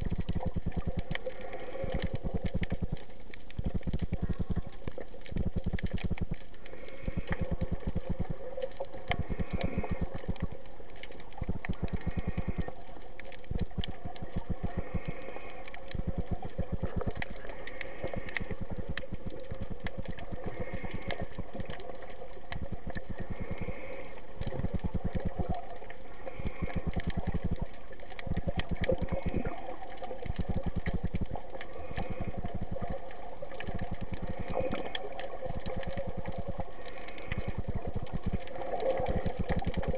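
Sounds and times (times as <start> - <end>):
underwater fine crackling: 0.0 - 39.9.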